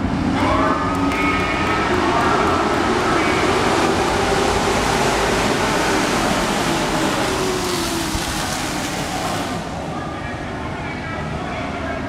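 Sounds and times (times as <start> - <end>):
race truck engines roaring: 0.0 - 12.0.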